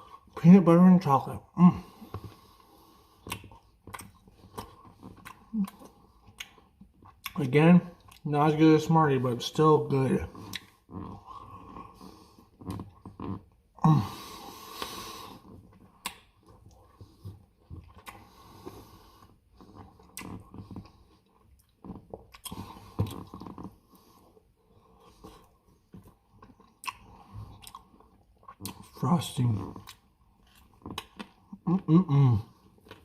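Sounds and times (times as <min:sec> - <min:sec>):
person chewing wetly: 0:01.8 - 0:08.6, 0:10.1 - 0:33.0.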